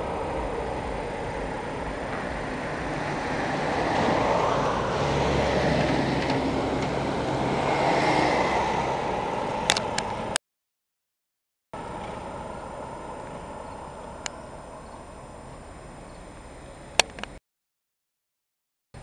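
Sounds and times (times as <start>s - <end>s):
cars driving by: 0.0s - 10.4s, 11.8s - 17.4s
truck engine low hum: 0.0s - 10.4s, 11.8s - 17.4s.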